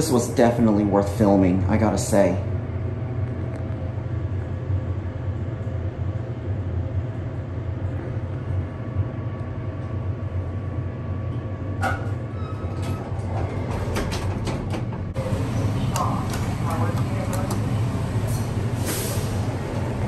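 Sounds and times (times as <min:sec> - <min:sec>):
elevator low hum: 0:00.0 - 0:20.0.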